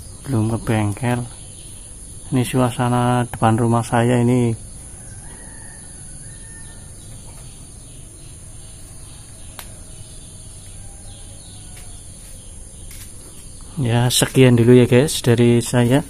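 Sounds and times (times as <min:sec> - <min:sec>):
faint bird chirps: 0:00.0 - 0:15.9
insect drone: 0:00.0 - 0:16.0
low background noise: 0:00.0 - 0:16.0.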